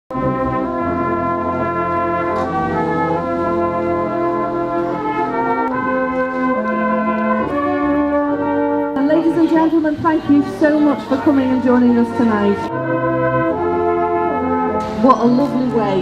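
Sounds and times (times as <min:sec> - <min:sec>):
brass band playing slow chords: 0:00.1 - 0:16.0
deep tuba bass notes: 0:00.1 - 0:16.0.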